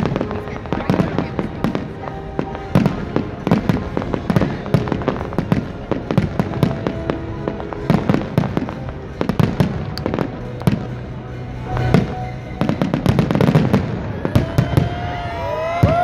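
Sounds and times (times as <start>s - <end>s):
fireworks bangs and crackles: 0.0s - 16.0s
music with long held notes: 0.0s - 16.0s.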